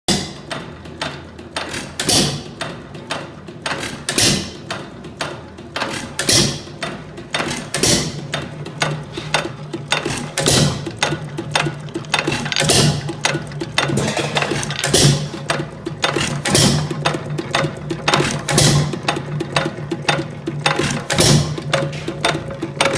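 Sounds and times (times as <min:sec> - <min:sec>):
mechanical clicking: 0:00.1 - 0:22.9.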